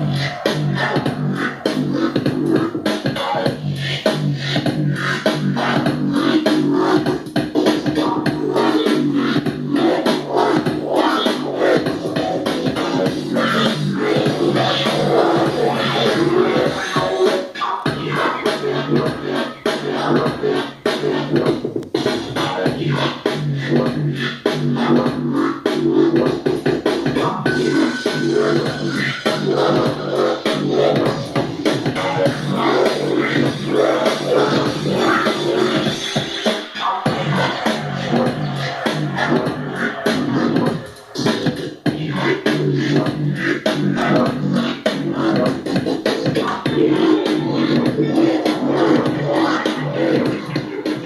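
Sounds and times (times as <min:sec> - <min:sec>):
electronic music with heavy bass: 0:00.0 - 0:51.0.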